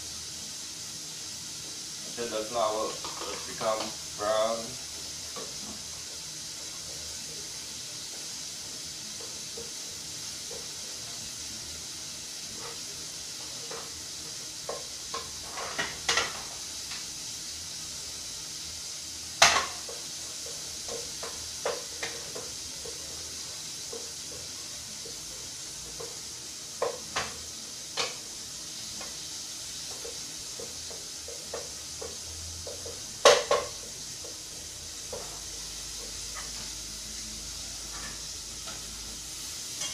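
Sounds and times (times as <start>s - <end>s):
faint sizzle: 0.0s - 39.9s.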